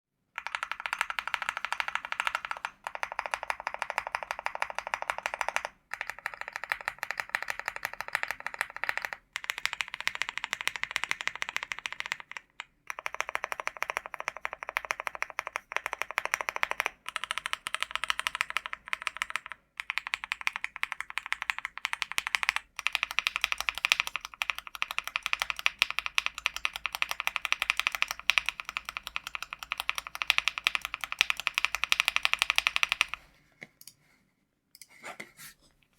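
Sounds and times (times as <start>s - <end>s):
mechanical keyboard typing: 0.4s - 33.2s.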